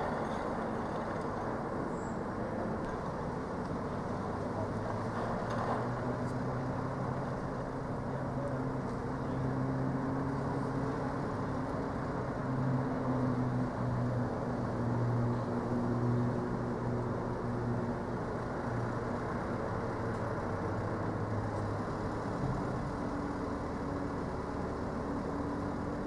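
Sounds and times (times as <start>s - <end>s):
van engine hum: 0.0s - 26.0s.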